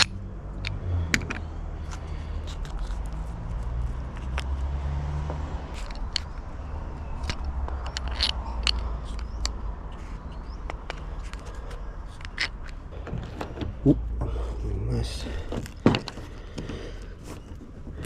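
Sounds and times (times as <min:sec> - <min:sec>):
fittings clicking and scraping: 0:00.0 - 0:18.0.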